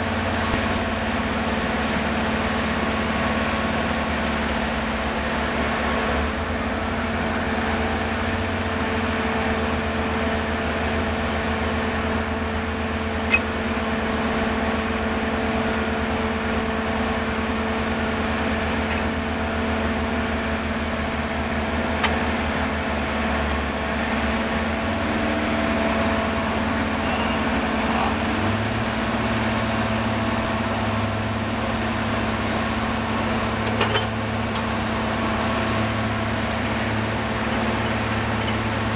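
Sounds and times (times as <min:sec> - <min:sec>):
drilling rig engine humming: 0:00.0 - 0:38.9.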